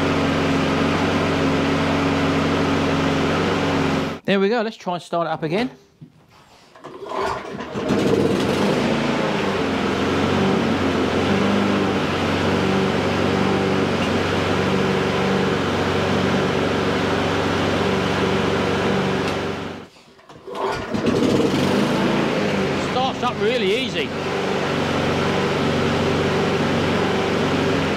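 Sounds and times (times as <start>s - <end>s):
lawn mower engine running: 0.0s - 4.2s, 6.8s - 27.9s.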